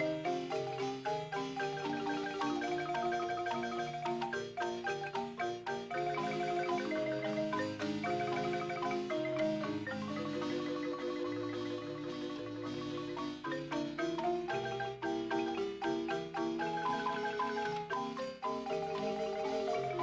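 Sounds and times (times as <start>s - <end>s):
marimba playing a lively tune: 0.0s - 20.0s.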